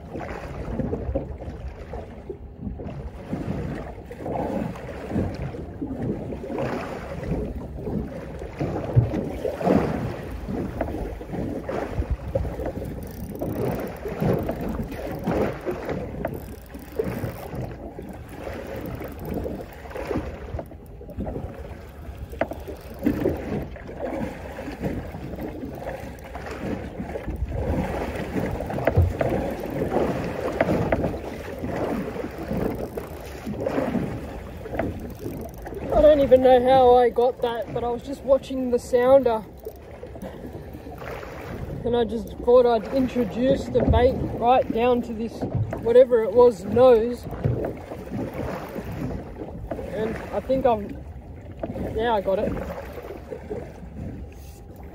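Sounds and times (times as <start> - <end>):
water slapping against boat hull: 0.0 - 54.9
wind buffeting microphone: 0.0 - 54.9.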